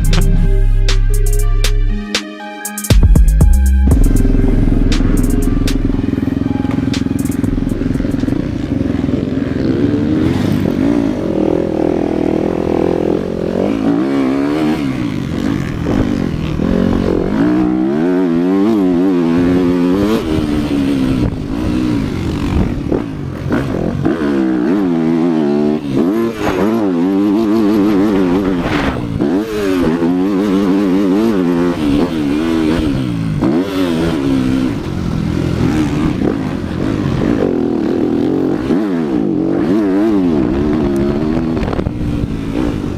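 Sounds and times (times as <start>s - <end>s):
motocross bike engine revving: 3.9s - 42.9s.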